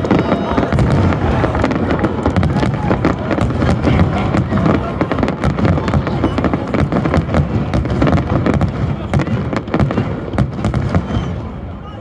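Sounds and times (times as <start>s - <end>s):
firework crackling: 0.0s - 11.8s.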